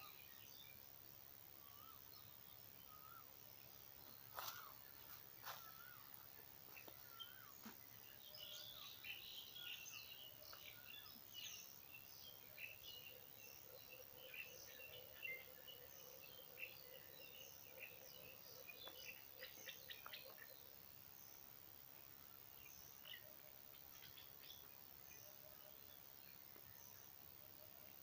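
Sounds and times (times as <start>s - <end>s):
faint low hum: 0.0s - 28.0s
small birds chirping: 0.0s - 28.0s.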